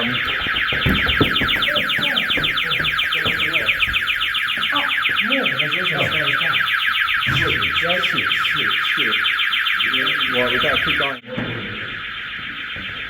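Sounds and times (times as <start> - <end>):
intruder alarm siren: 0.0 - 13.0.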